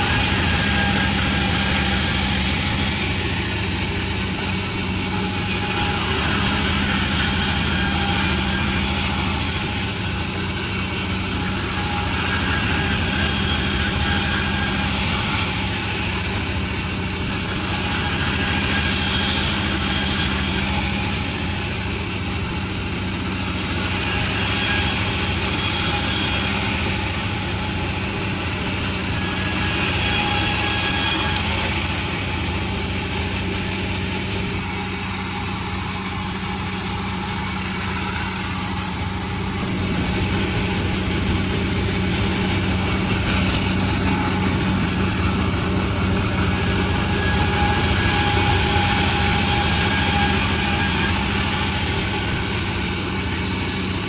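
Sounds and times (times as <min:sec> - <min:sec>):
sawmill machine hum: 0:00.0 - 0:54.0.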